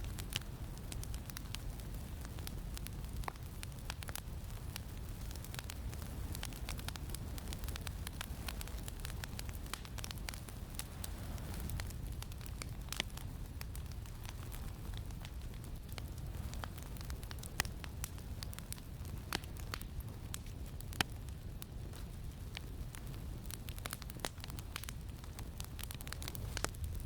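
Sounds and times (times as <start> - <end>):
campfire crackling and popping: 0.0 - 27.0
low rumble of wind: 0.0 - 27.0.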